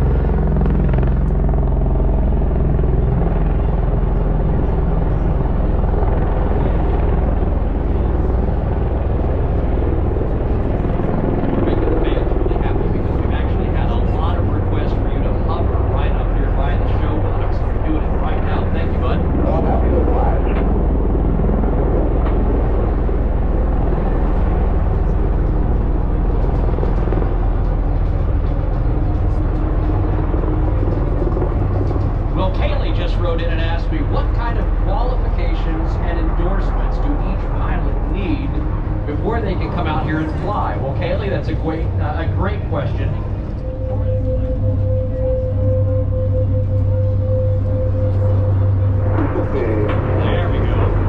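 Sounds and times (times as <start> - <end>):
aircraft engine rumble: 0.0 - 51.0.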